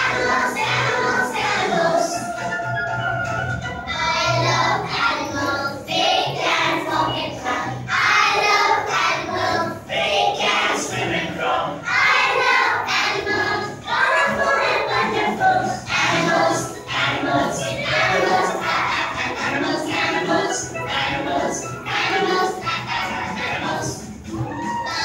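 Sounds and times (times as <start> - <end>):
children singing in chorus: 0.0 - 2.5, 3.9 - 25.0
music: 0.0 - 25.0.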